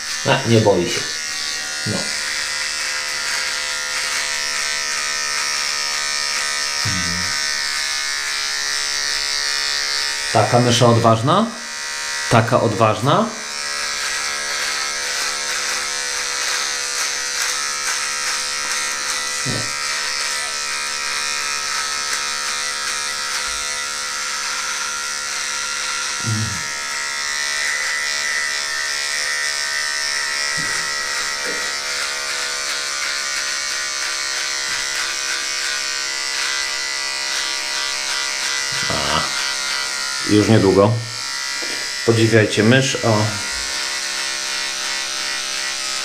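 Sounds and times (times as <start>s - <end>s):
electric beard trimmer buzzing: 0.0s - 46.0s.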